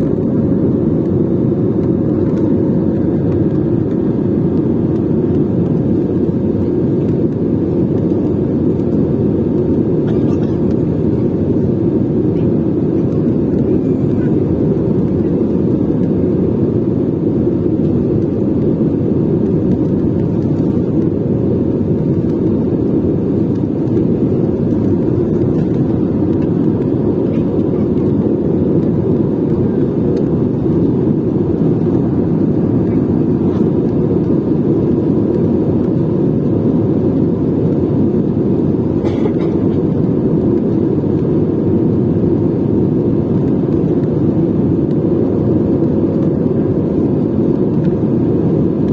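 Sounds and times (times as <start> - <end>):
jet airliner roar: 0.0 - 48.9.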